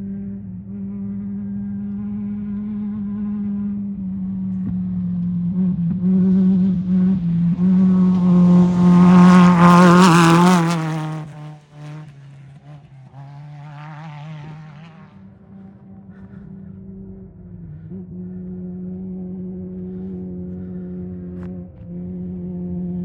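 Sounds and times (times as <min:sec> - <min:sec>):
race vehicle engine passing: 0:01.6 - 0:23.0
fainter race vehicle passing: 0:02.2 - 0:22.5.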